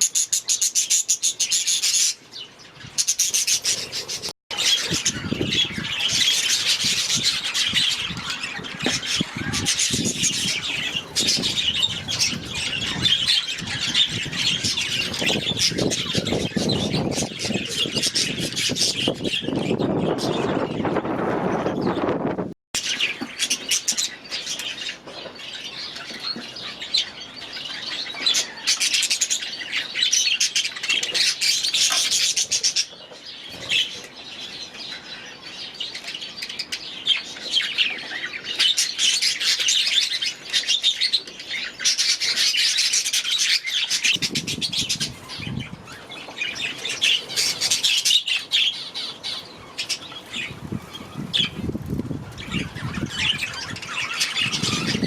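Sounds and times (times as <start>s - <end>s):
budgerigars chattering and warbling: 0.0s - 20.9s, 22.8s - 51.7s, 52.3s - 55.0s.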